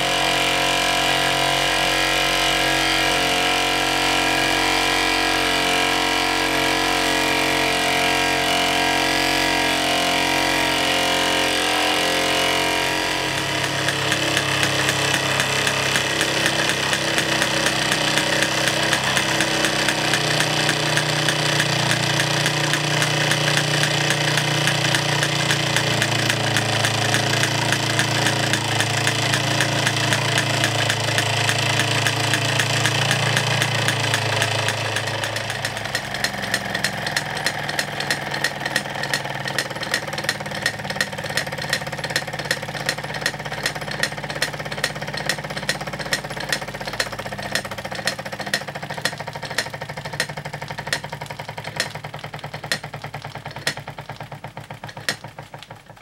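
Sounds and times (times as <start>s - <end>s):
toy steam engine beating: 0.0s - 56.0s.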